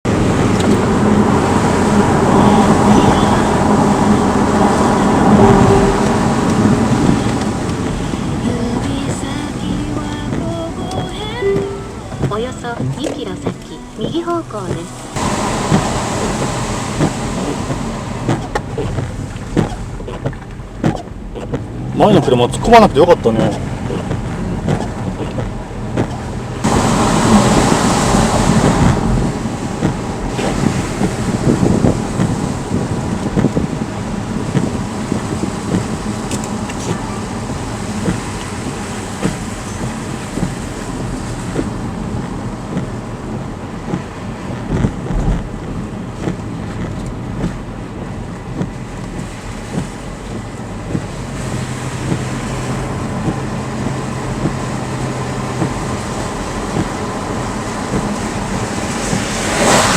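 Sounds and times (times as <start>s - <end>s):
car interior road noise: 0.0s - 59.9s.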